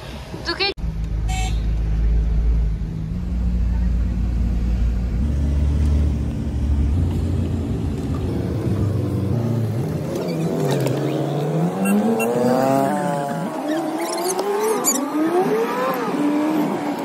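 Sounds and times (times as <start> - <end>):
vehicle engine accelerating: 0.8 - 17.0.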